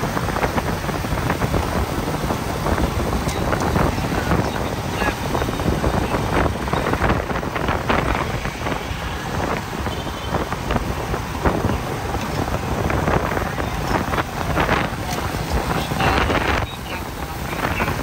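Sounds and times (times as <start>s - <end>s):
low rumble of motorbike: 0.0s - 18.0s
street traffic: 0.0s - 18.0s
wind buffeting microphone: 0.0s - 18.0s.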